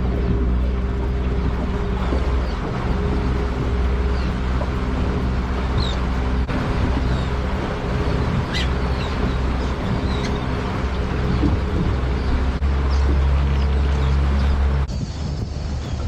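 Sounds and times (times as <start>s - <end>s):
outboard motor running: 0.0s - 16.0s
seabirds calling: 0.0s - 16.0s
water noise: 0.0s - 16.0s
wind: 0.0s - 16.0s.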